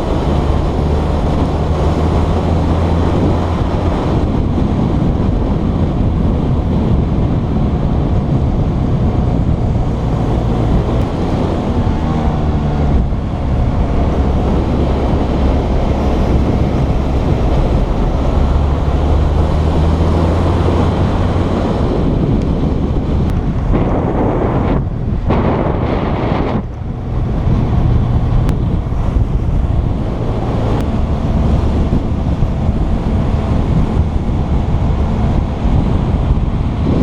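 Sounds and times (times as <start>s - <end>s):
motorcycle engine hum: 0.0s - 37.0s
wind rush over microphone: 0.0s - 37.0s.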